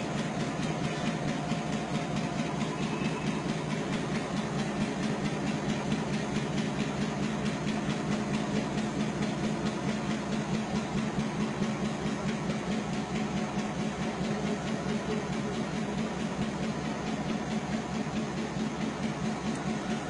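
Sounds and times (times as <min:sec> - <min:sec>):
locomotive engine idling: 0:00.0 - 0:20.0.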